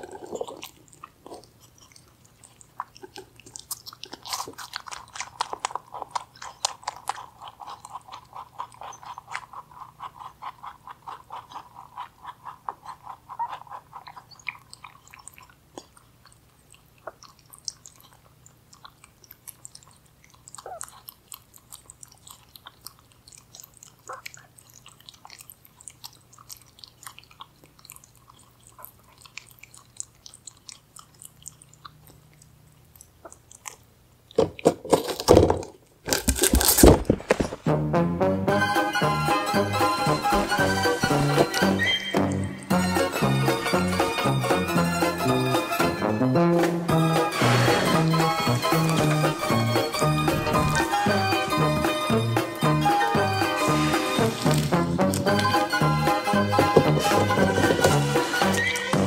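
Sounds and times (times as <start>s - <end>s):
rabbit chewing: 0.0s - 37.6s, 38.8s - 46.0s, 46.7s - 59.0s.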